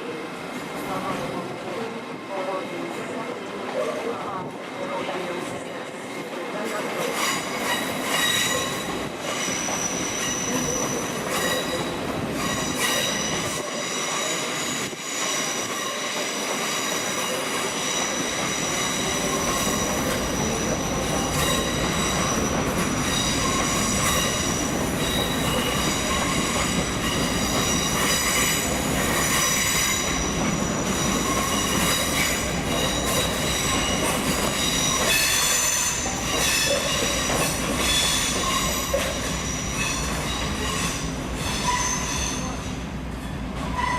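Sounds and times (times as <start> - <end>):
train rumble: 0.0 - 43.9
train wheels squealing on rails: 6.6 - 43.9.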